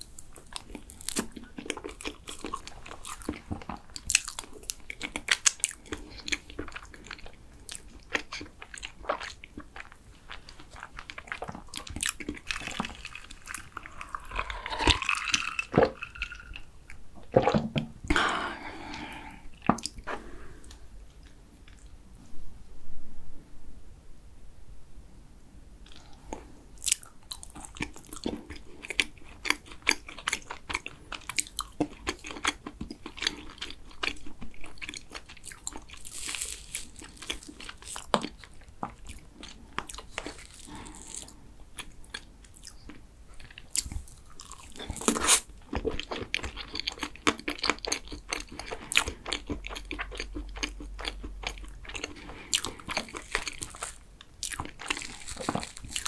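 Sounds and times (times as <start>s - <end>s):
chewing and crunching cake: 0.0s - 20.1s, 25.9s - 56.0s.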